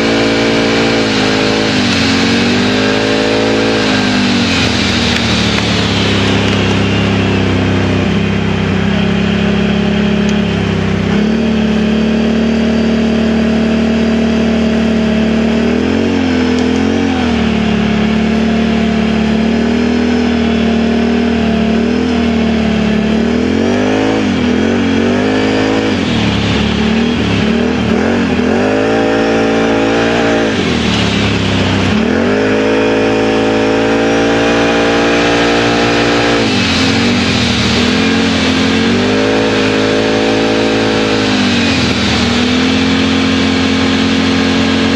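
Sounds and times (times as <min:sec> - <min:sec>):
atv engine revving: 0:00.0 - 0:44.9.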